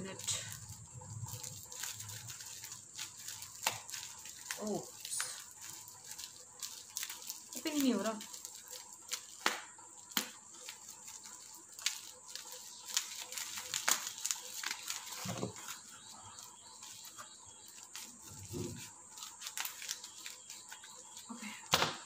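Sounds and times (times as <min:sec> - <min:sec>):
bubble wrap crinkling: 0:00.0 - 0:21.8.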